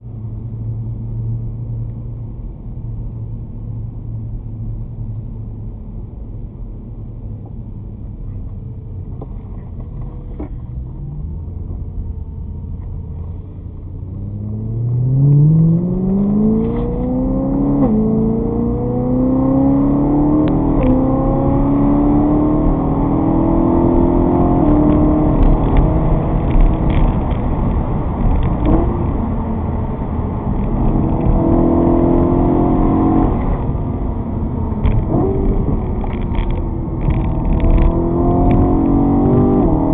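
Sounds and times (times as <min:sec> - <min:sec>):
vehicle engine idling and accelerating: 0:00.0 - 0:39.9.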